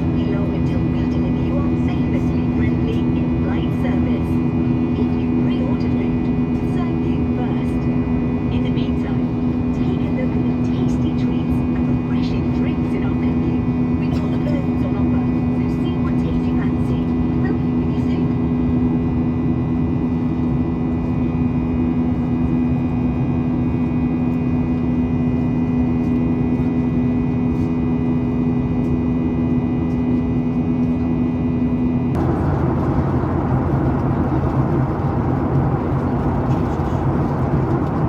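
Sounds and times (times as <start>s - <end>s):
high engine whine: 0.0s - 38.0s
jet engine drone in cabin: 0.0s - 38.0s.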